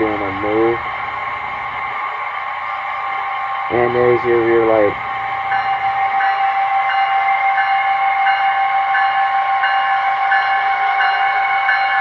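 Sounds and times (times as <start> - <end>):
model locomotive diesel hum: 0.0 - 12.0.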